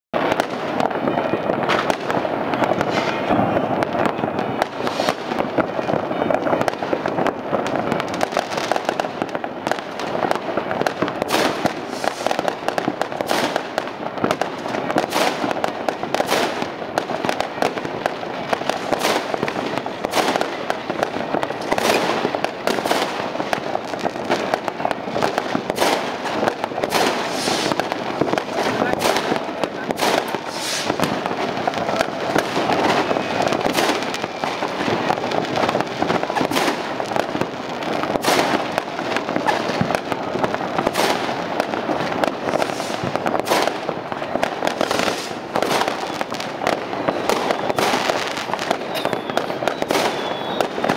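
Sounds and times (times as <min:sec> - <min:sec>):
fireworks bangs and crackling: 0:00.1 - 0:50.9.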